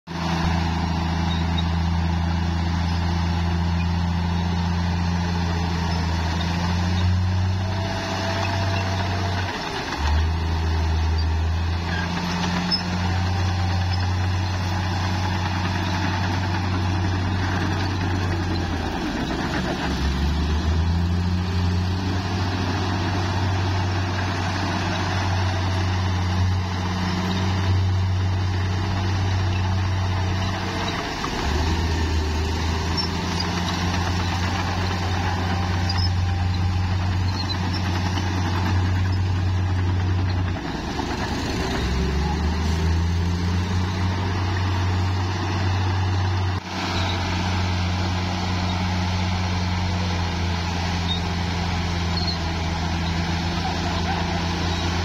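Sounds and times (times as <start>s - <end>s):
bulldozer diesel engine running hard: 0.1s - 55.0s.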